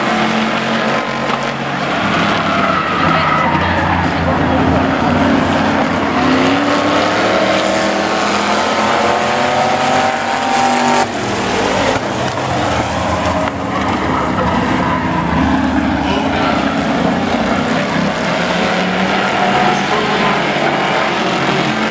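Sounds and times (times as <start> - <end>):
engine accelerating: 0.0 - 21.9
several truck engines racing: 0.0 - 21.9.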